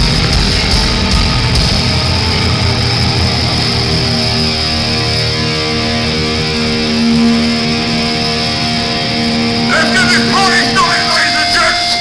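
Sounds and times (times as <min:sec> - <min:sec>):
distorted electric guitars ringing: 0:00.0 - 0:12.0
metal band playing live: 0:00.0 - 0:12.0.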